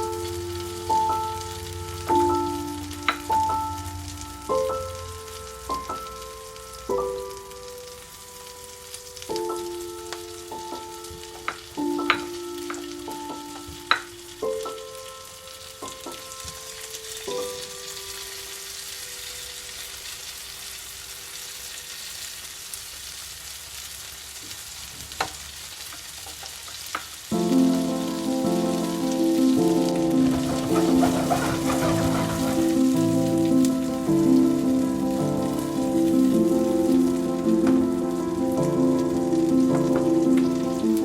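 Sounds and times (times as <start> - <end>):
soft background music: 0.0 - 22.4, 27.3 - 41.0
food sizzling in a pan: 0.0 - 41.0.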